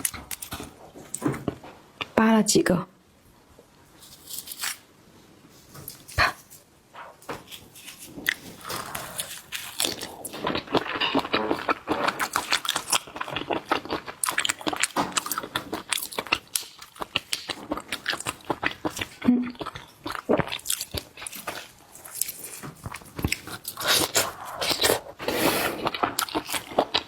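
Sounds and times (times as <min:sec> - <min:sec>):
chewing and crunching shrimp: 0:00.0 - 0:02.2, 0:05.8 - 0:06.6, 0:07.4 - 0:27.0.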